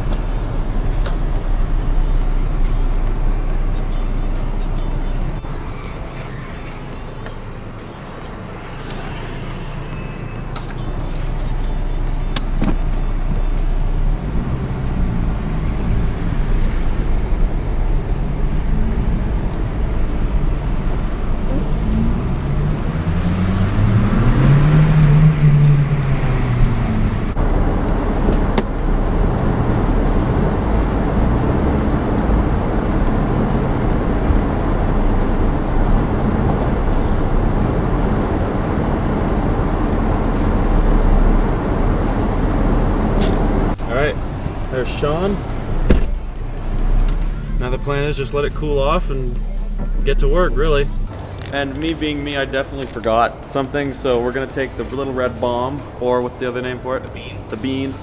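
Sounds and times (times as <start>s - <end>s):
car engine drone: 0.0s - 58.0s
road and tyre rumble: 0.0s - 58.0s.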